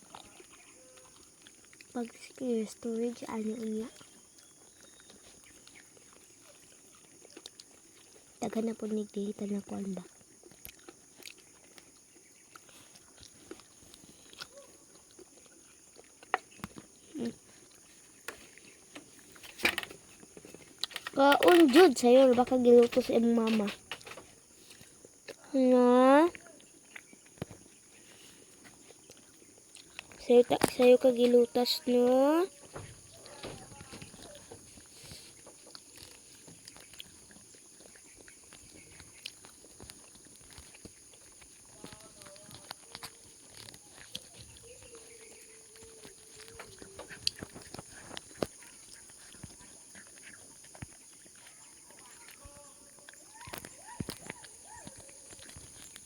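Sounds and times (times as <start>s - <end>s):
puppy chewing corn: 0.0s - 56.0s.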